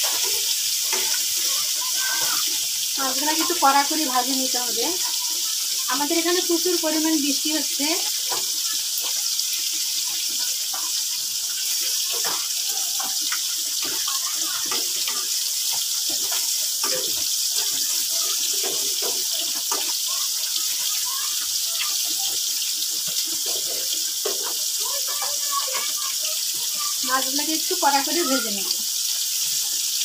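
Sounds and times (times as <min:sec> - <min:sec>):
fish sizzling in hot oil: 0:00.0 - 0:30.0
metal spatula turning fish: 0:00.0 - 0:30.0
oil crackling and popping: 0:00.0 - 0:30.0.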